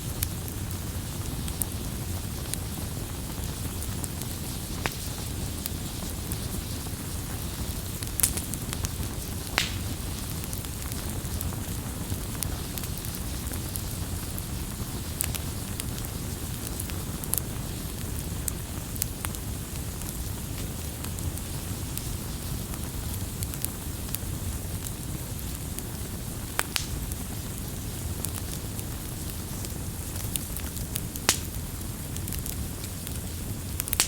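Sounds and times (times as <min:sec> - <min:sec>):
campfire rumbling: 0:00.0 - 0:34.0
wood crackles and pops: 0:00.0 - 0:34.0.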